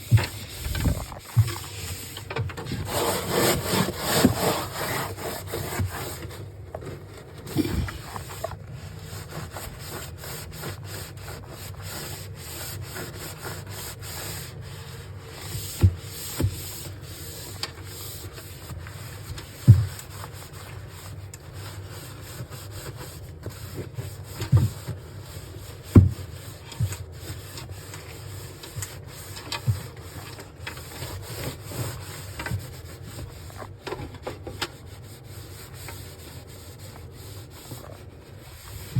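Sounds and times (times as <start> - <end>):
hand scrubbing fridge surfaces: 0.0 - 38.9.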